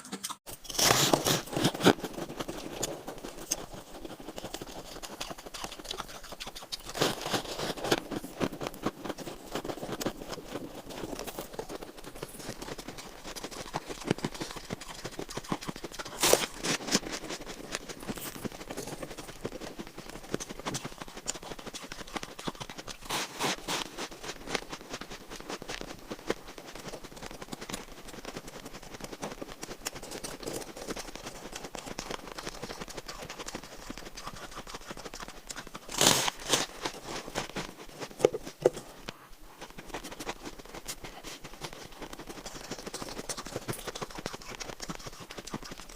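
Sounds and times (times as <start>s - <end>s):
chewing ice crunching: 0.1s - 45.9s.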